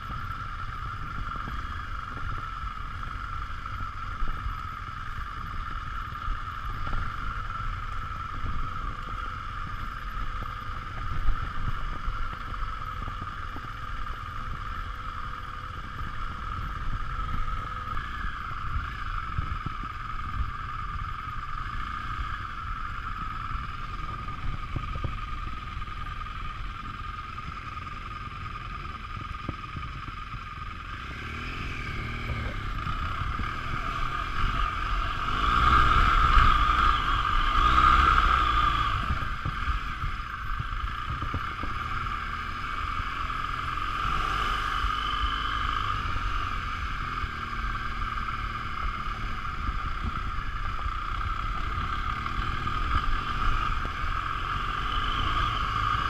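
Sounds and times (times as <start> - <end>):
motorcycle engine at low revs: 0.0 - 56.0
steady whine: 0.0 - 56.0
wind rumble: 0.0 - 56.0.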